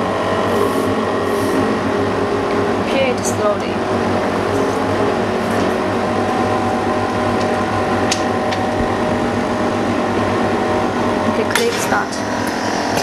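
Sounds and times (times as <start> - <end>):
mechanical hum of equipment: 0.0 - 13.0.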